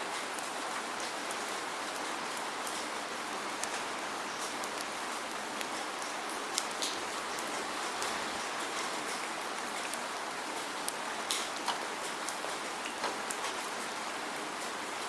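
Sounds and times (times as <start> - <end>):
raindrops ticking on surface: 0.0 - 15.0
steady rain hiss: 0.0 - 15.0.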